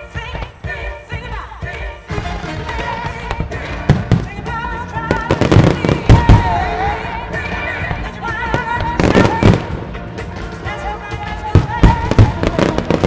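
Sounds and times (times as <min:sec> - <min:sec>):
pop song with singing: 0:00.0 - 0:13.0
fireworks booming: 0:02.1 - 0:13.0.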